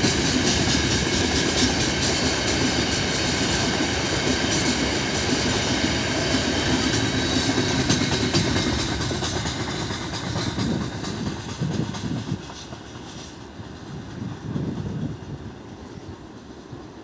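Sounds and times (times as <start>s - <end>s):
train wheels clattering over rail joints: 0.0s - 15.4s
faint train rumble: 0.0s - 17.0s.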